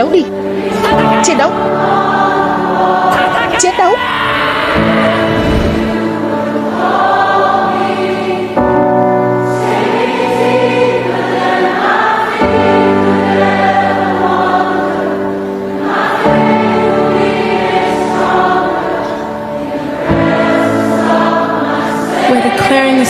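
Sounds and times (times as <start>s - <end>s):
choir singing held chords: 0.0s - 23.0s.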